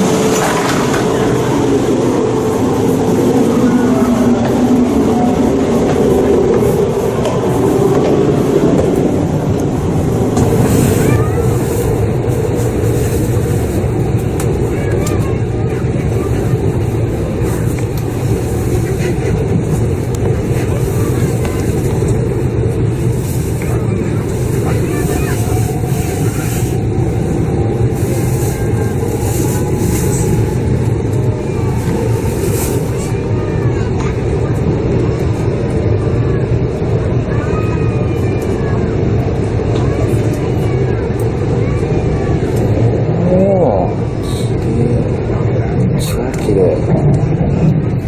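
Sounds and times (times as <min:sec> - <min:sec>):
faint gliding whines: 0:00.0 - 0:46.2
high-speed train rumbling: 0:00.0 - 0:48.0.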